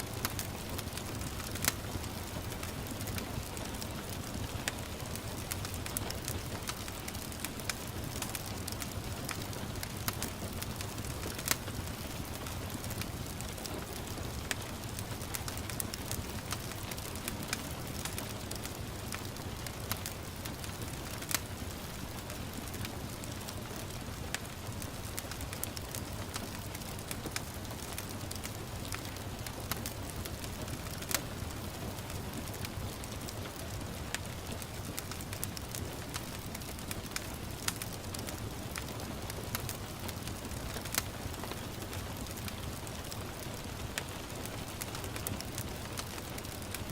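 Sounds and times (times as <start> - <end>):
gentle rain: 0.0 - 46.9
wood fire crackling: 0.0 - 46.9.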